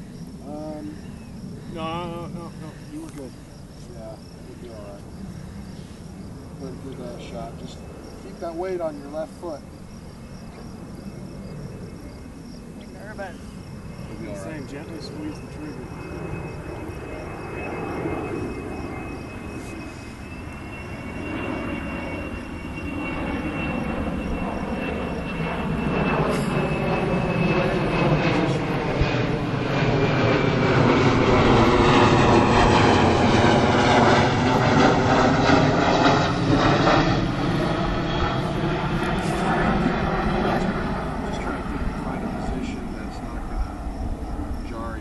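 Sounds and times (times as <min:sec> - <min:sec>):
airplane engine drone overhead: 0:00.0 - 0:45.0.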